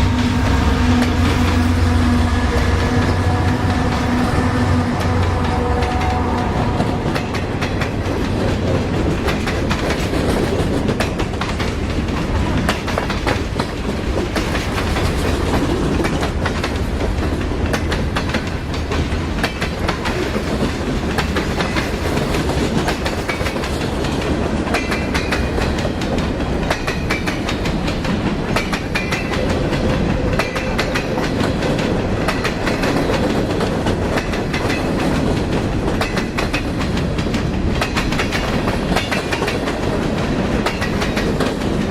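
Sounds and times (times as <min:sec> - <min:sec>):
wheels clacking over rail joints: 0:00.9 - 0:41.9.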